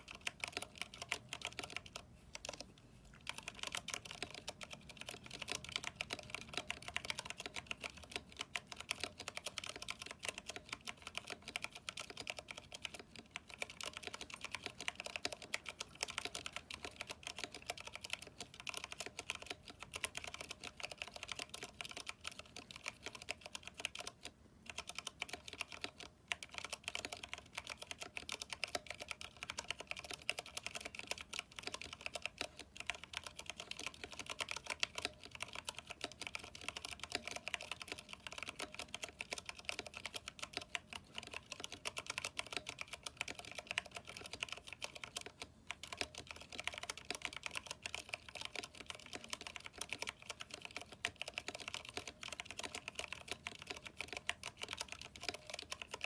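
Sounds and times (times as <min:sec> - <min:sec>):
fast typing on mechanical keyboard: 0:00.0 - 0:56.0.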